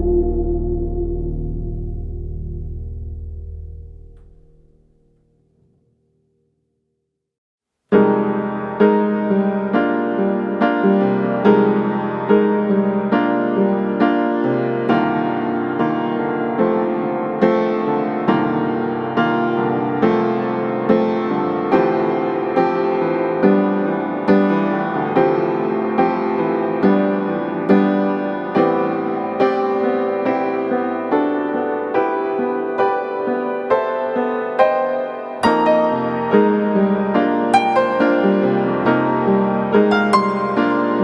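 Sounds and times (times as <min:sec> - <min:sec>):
slow piano music: 0:00.0 - 0:06.0, 0:07.9 - 0:41.0.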